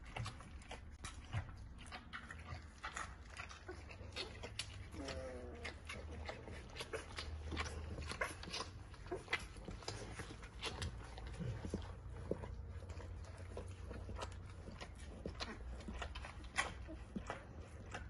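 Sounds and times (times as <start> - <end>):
puppies suckling: 0.0 - 18.0
puppy whining: 0.0 - 18.0.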